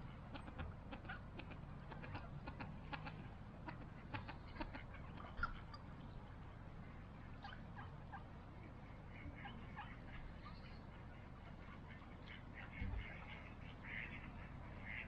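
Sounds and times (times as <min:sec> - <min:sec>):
ducks quacking softly: 0:00.1 - 0:06.1, 0:06.8 - 0:15.0.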